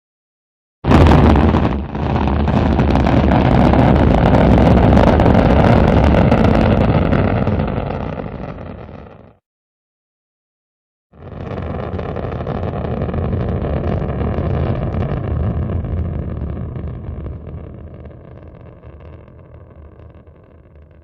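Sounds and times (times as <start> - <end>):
rocket engine rumble: 0.9 - 9.3, 11.2 - 21.0.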